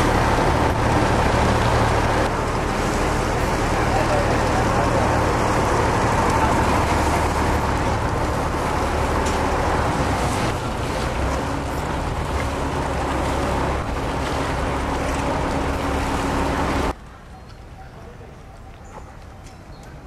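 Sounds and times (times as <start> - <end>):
boat engine running: 0.0 - 17.0
rushing water: 0.0 - 17.0
wind: 0.0 - 20.0.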